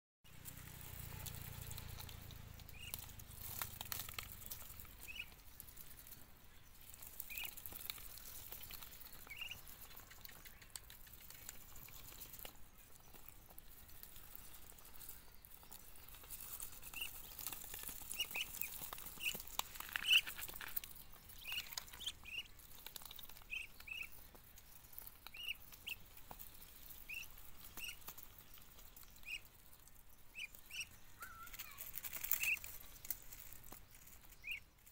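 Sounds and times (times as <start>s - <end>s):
ducks chirping: 0.3s - 34.9s
ducks pecking at dry leaves: 0.3s - 34.9s.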